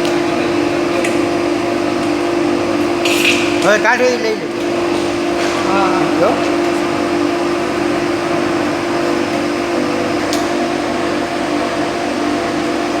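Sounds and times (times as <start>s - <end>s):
motor and blower hum: 0.0s - 13.0s.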